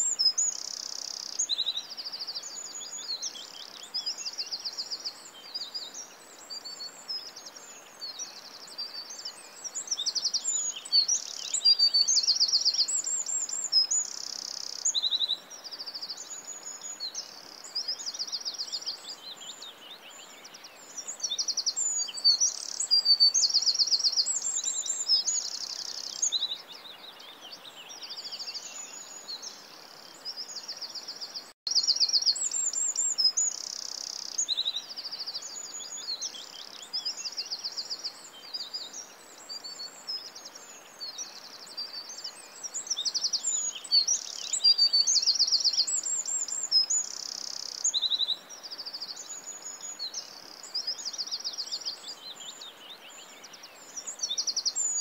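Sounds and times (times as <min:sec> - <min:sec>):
faint steady hiss: 0:00.0 - 0:55.0
small birds chirping and trilling: 0:00.0 - 0:55.0.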